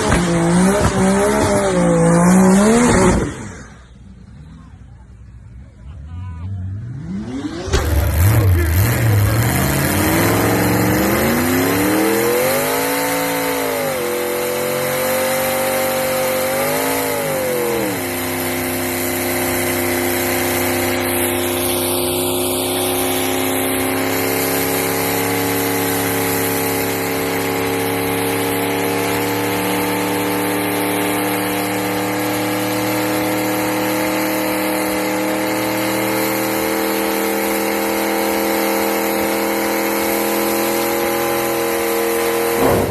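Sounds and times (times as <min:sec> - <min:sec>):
turbocharged car engine revving: 0:00.0 - 0:42.9.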